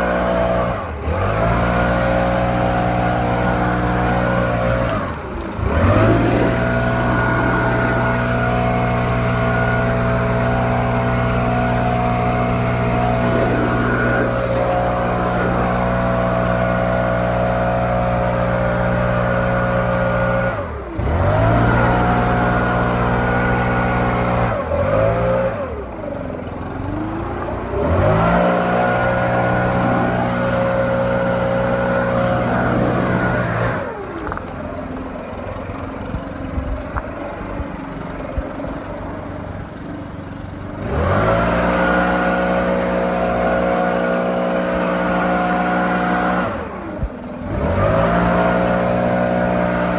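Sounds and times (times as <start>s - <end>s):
leaf blower engine revving: 0.0s - 49.9s.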